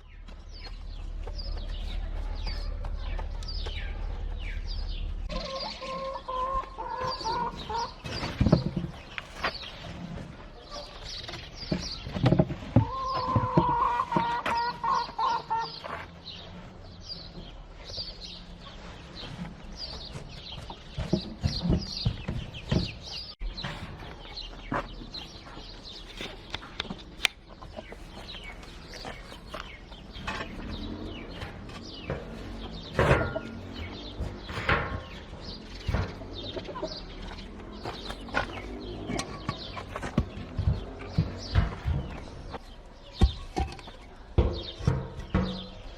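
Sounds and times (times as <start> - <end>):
chickens clucking: 0.0 - 45.9
chicks peeping: 0.0 - 45.9.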